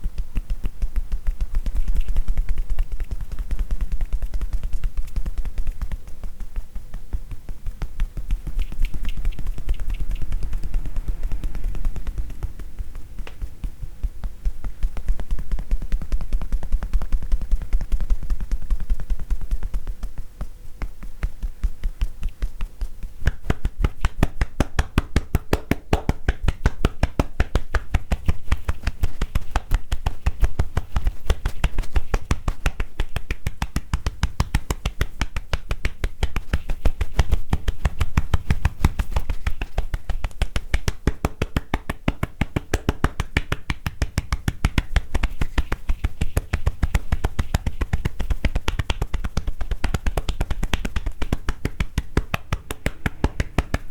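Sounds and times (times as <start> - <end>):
hands tapping on body: 0.0 - 53.9.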